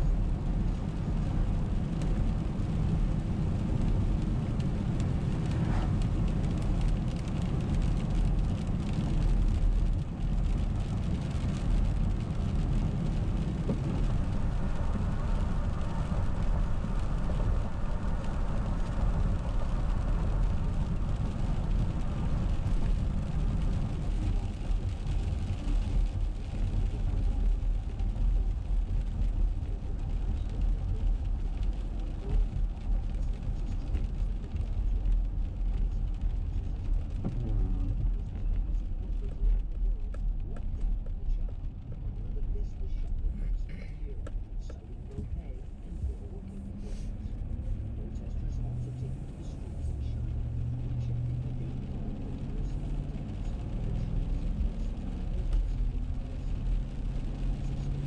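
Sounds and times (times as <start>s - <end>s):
car engine hum: 0.0s - 58.0s.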